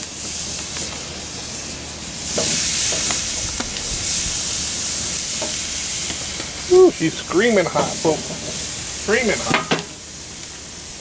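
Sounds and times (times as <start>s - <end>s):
burger patties sizzling on grill: 0.0s - 11.0s.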